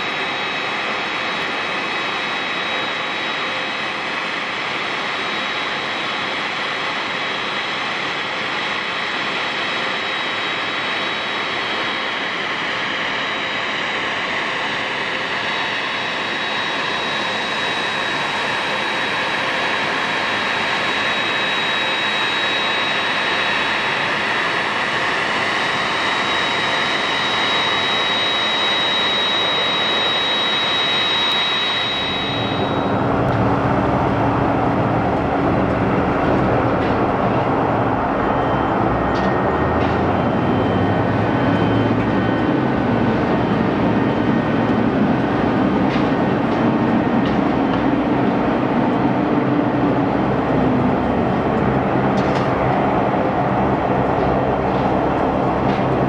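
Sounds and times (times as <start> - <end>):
jet engine rumble: 0.0 - 56.0
jet engine whine: 0.0 - 56.0.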